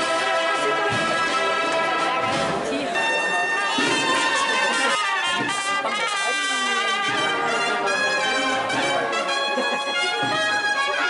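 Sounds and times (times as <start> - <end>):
procession band playing march: 0.0 - 11.0.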